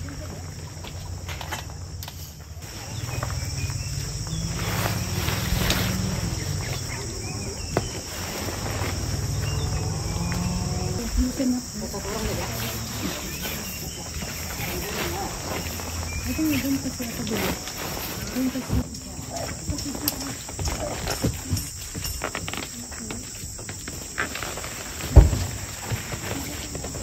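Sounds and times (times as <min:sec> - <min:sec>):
high-pitched insect chorus: 0:00.0 - 0:27.0
tent fabric rustling and flapping: 0:02.6 - 0:27.0.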